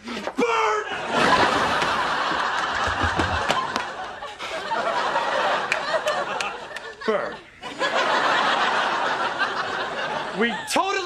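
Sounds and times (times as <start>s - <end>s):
audience laughing: 0.9s - 11.0s.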